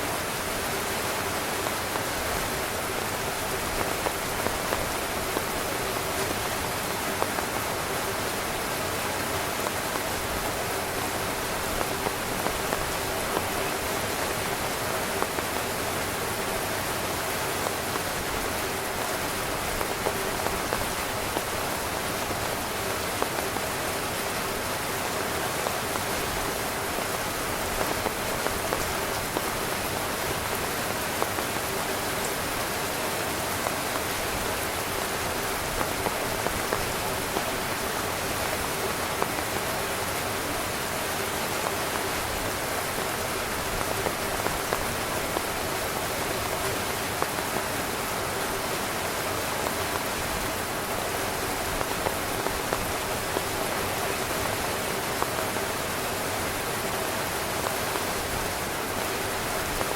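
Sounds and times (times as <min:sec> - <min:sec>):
heavy rain on a tent: 0:00.0 - 0:59.9.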